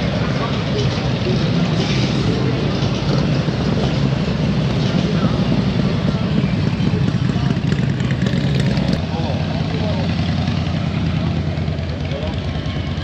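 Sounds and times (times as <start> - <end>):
crowd talking: 0.0 - 13.0
motorcycle engines running: 0.0 - 13.0.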